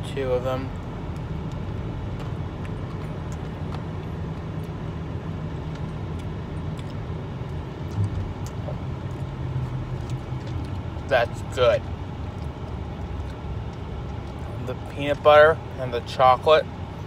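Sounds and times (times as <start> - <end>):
low hum in car cabin: 0.0 - 17.0.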